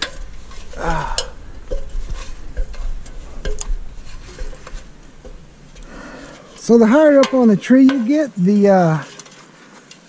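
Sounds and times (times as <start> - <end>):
sharp metal clanks: 0.0 - 8.2
metal ladder knocking and scraping: 0.0 - 10.0.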